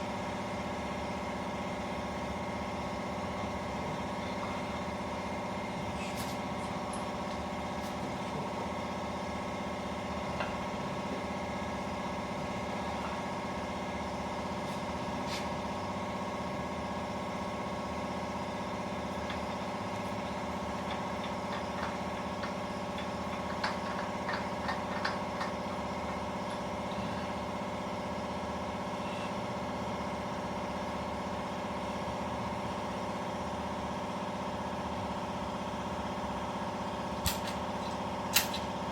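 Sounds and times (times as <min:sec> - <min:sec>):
mechanical hum: 0:00.0 - 0:38.9.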